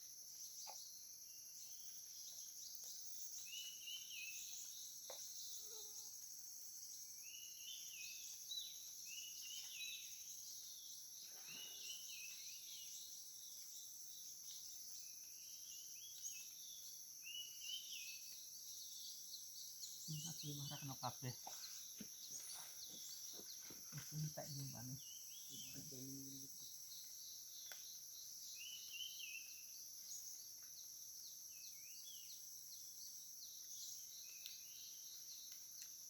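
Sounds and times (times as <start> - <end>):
insects droning: 0.0 - 36.0
bird chirps: 1.6 - 6.0, 7.2 - 36.0.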